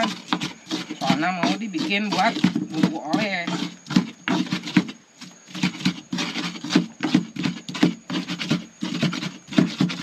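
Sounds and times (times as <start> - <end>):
pestle grinding in mortar: 0.0 - 10.0.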